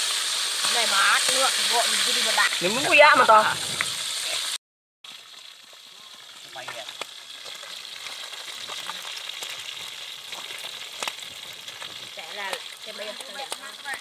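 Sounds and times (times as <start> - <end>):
fish deep-frying in oil: 0.0 - 14.0.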